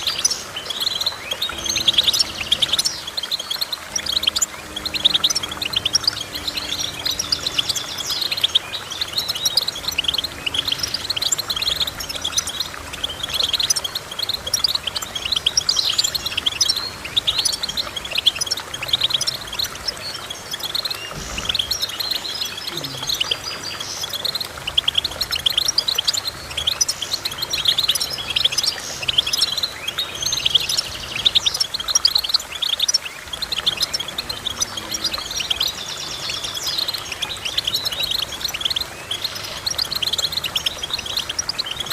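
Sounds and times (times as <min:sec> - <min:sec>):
goldfinch song: 0:00.0 - 0:41.9.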